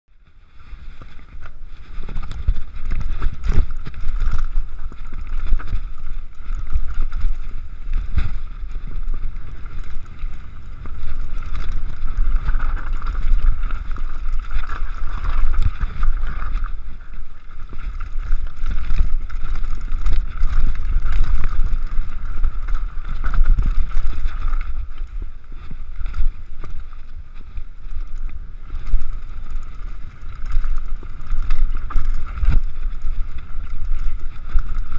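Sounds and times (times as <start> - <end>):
bike rumbling and rattling: 0.1 - 34.9
wind buffeting microphone: 0.2 - 34.9.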